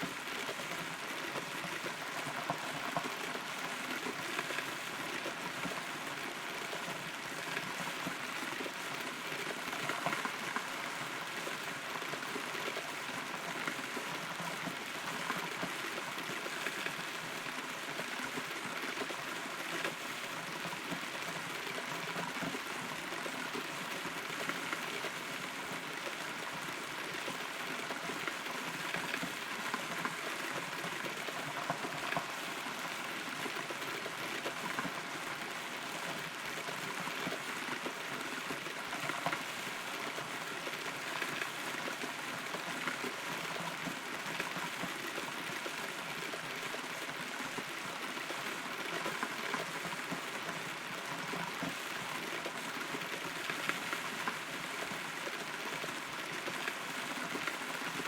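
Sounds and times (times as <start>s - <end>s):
rain drops pattering on wood: 0.0s - 58.0s.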